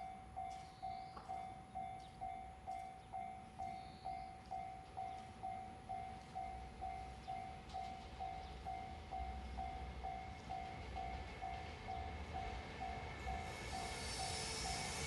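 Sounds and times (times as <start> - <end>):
level crossing warning bell: 0.0 - 14.4.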